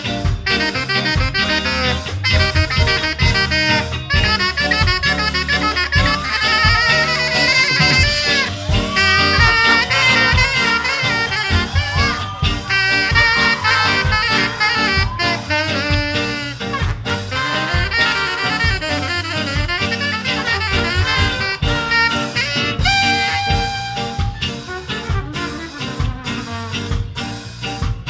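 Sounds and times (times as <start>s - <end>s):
ska band playing live: 0.0s - 28.0s.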